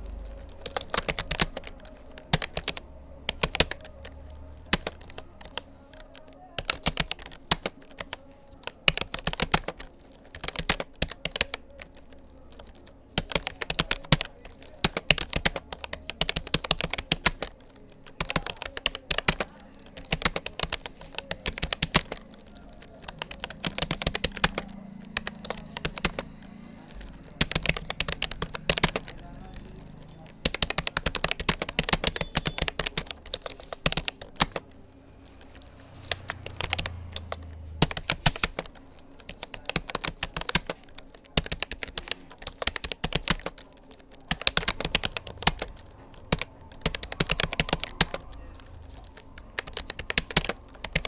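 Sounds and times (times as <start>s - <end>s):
computer keyboard typing: 0.0s - 51.0s.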